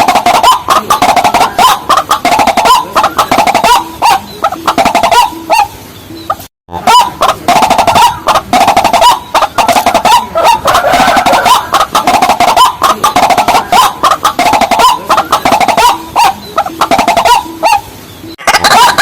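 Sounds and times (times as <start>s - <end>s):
rail bird clucking calls: 0.0s - 19.0s.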